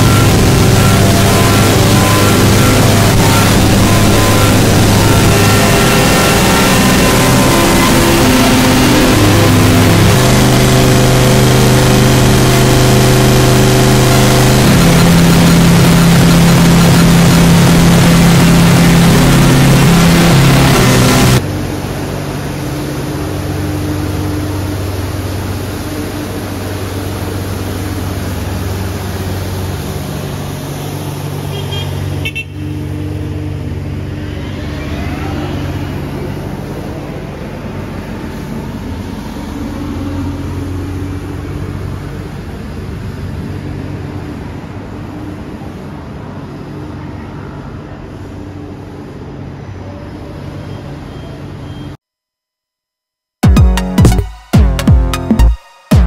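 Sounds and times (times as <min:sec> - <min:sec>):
vehicle engine humming: 0:00.0 - 0:51.7
street noise: 0:00.0 - 0:52.0.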